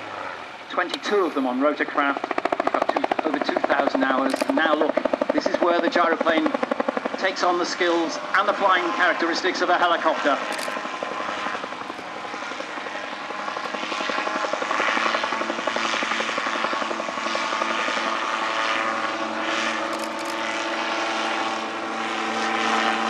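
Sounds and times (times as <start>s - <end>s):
aircraft engine and propeller droning: 0.0s - 23.0s.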